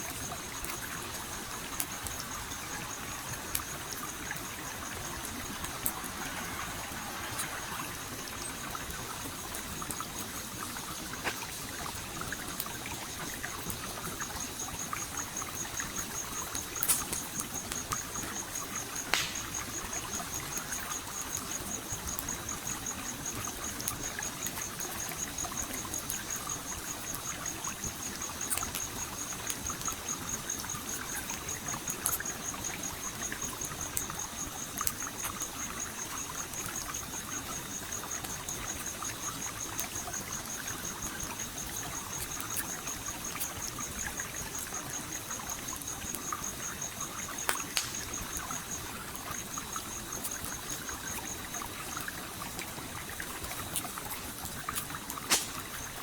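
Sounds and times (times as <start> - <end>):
campfire crackling: 0.0 - 56.0
pulsing insect chirp: 0.0 - 56.0
stream water trickling: 0.0 - 56.0.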